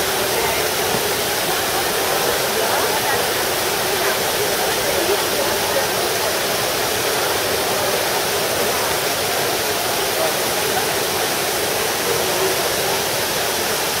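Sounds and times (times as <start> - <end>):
fountain water cascading: 0.0 - 14.0.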